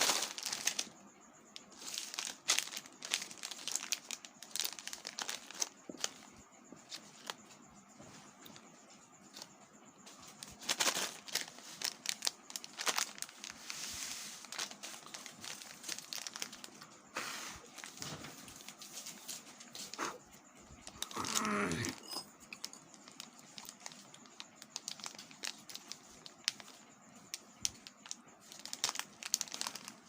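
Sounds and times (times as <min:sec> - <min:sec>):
plastic wrappers crinkling: 0:00.0 - 0:07.4, 0:10.1 - 0:17.0, 0:17.6 - 0:20.0, 0:20.8 - 0:21.9, 0:22.5 - 0:30.0.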